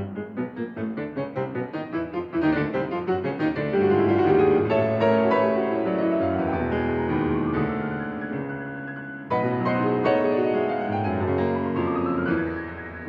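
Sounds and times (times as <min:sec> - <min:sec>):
solo piano piece: 0:00.0 - 0:13.0.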